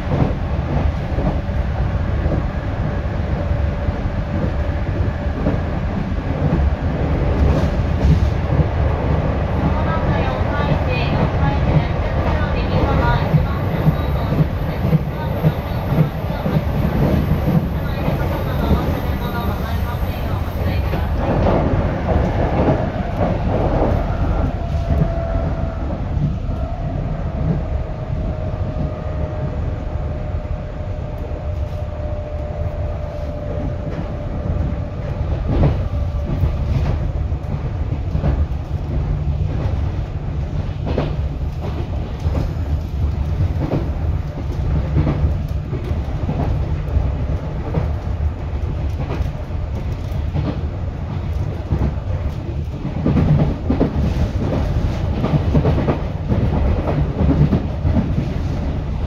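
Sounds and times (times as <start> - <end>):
rail joint clicks: 0.0 - 59.0
train wheels rumbling on rail: 0.0 - 59.0.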